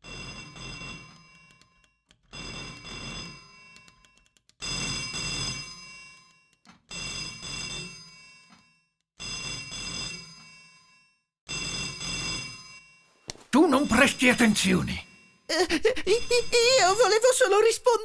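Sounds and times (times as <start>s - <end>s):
telephone bell ringing: 0.0s - 18.0s.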